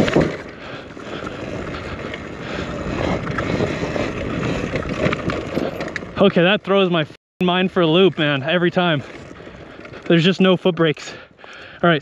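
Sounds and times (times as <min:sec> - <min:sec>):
tyre noise on dirt: 0:00.0 - 0:11.2
bike knocking and rattling: 0:00.0 - 0:12.0.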